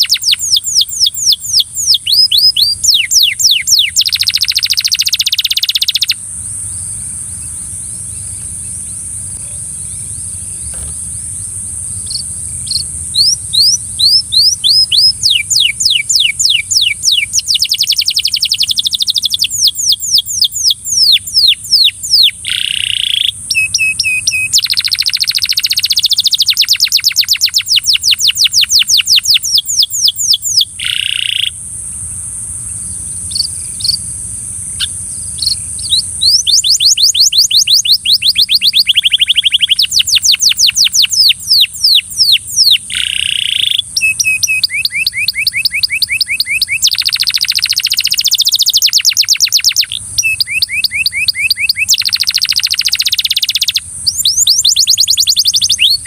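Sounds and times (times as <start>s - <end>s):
canary singing: 0.0s - 31.6s, 34.7s - 56.0s
steady high hiss: 0.0s - 56.0s.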